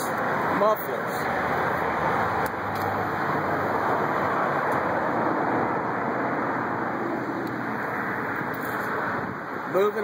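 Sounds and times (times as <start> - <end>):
distant road traffic: 0.0 - 10.0.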